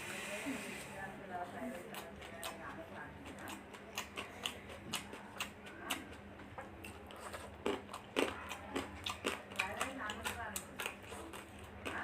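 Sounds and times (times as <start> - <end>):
mouth chewing food: 1.7 - 12.0.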